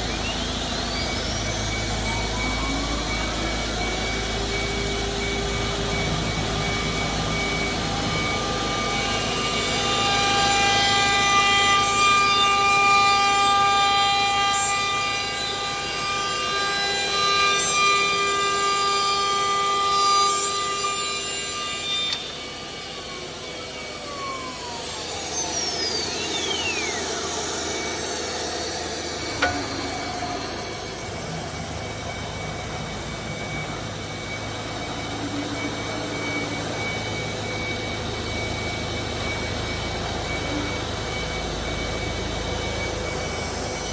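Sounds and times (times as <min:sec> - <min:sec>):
cutter working wood: 0:00.0 - 0:43.9
router spindle whining: 0:00.0 - 0:43.9.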